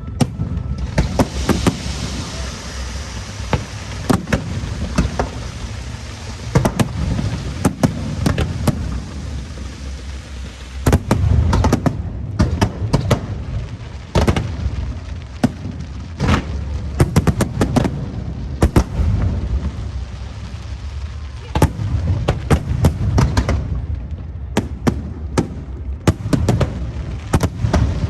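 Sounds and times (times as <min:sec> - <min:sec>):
continuous low rumble: 0:00.0 - 0:28.0
fireworks bangs: 0:00.0 - 0:28.0.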